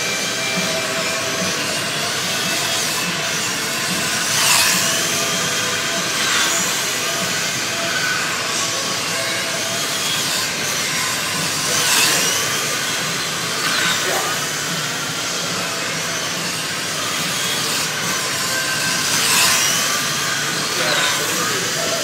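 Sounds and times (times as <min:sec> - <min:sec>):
slot car motors whining: 0:00.0 - 0:22.0.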